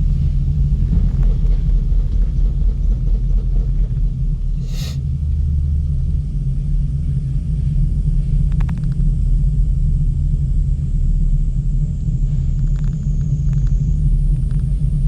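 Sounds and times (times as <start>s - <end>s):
cable car gondola rumbling: 0.0s - 15.0s.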